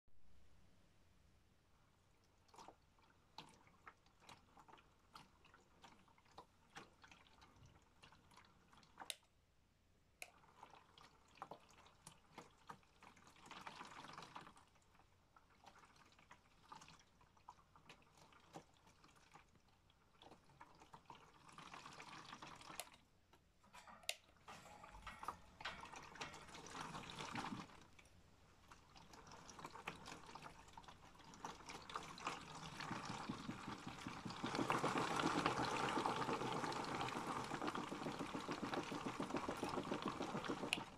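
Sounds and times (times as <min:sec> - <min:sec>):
water sloshing and dripping: 0:02.0 - 0:09.2, 0:10.2 - 0:23.1, 0:23.8 - 0:40.9.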